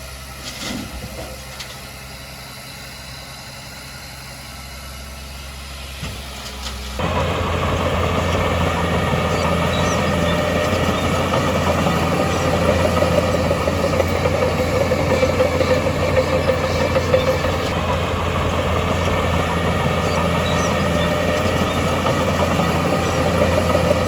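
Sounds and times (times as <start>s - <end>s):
diesel earthmoving machinery: 0.0s - 24.0s.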